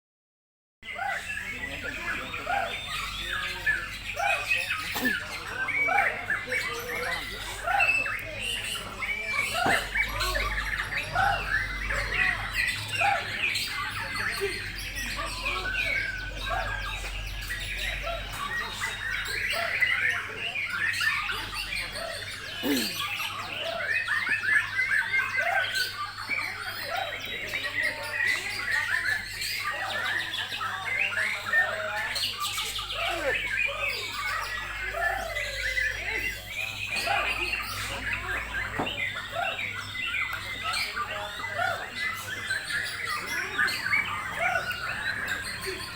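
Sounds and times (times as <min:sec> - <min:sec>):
other birds singing: 0:00.8 - 0:45.9
songbird singing: 0:00.8 - 0:45.9.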